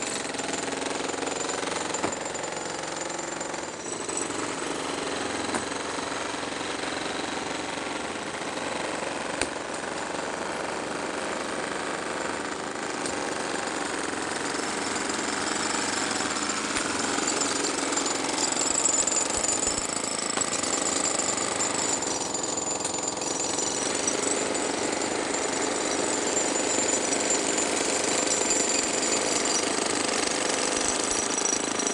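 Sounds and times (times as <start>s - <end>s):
breaker hammer pounding concrete: 0.0s - 31.9s.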